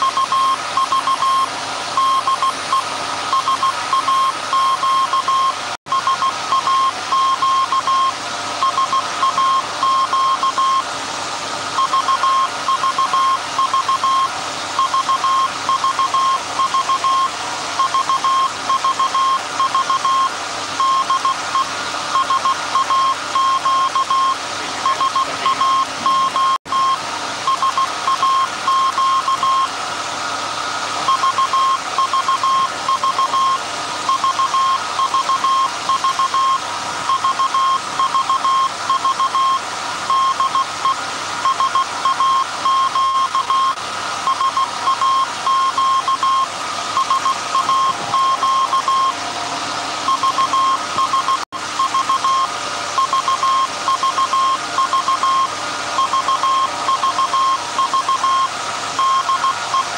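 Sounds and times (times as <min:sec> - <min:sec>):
morse code beeping tone: 0:00.0 - 0:10.9, 0:11.8 - 0:29.7, 0:31.1 - 0:49.2, 0:50.1 - 0:59.9.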